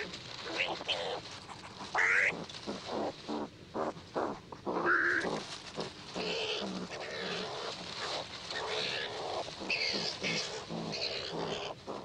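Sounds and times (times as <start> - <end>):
skunk short low calls: 0.0 - 12.0.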